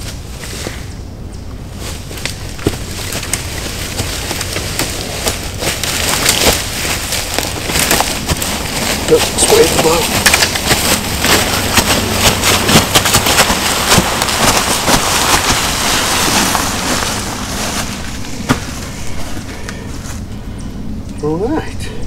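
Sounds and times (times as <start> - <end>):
footsteps crunching dry leaves: 1.7 - 20.2.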